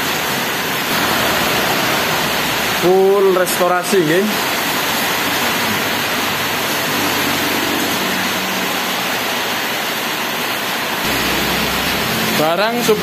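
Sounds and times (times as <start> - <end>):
loud rushing hiss: 0.4 - 13.0.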